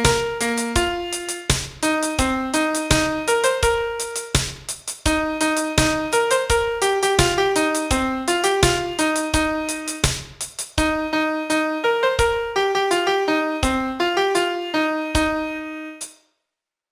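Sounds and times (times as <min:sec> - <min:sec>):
piano melody over chords: 0:00.0 - 0:16.1.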